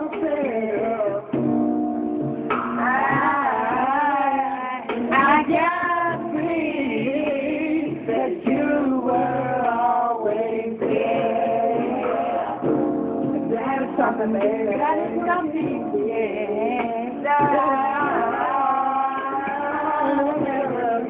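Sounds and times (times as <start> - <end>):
person singing a melody: 0.0 - 1.4, 2.8 - 12.7, 13.4 - 21.0.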